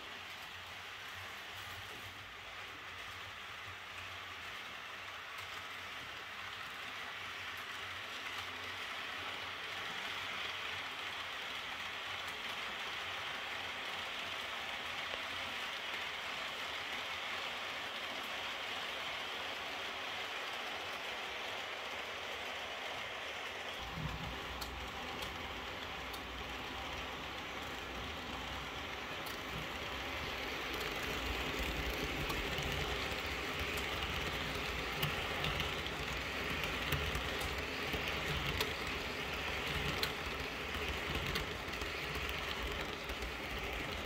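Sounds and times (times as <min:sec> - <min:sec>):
model train wheels rattling on rails: 0:00.0 - 0:44.0.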